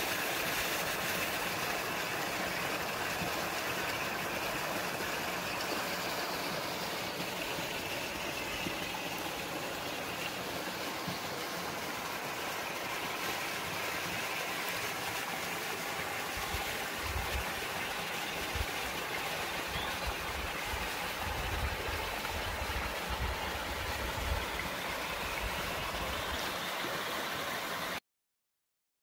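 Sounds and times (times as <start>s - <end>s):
rushing stream water: 0.0s - 28.0s.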